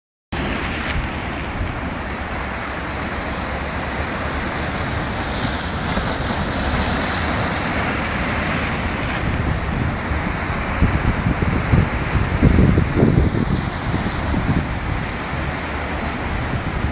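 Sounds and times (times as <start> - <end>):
waves breaking over rocks: 0.4 - 16.9
wind buffeting microphone: 0.4 - 16.9.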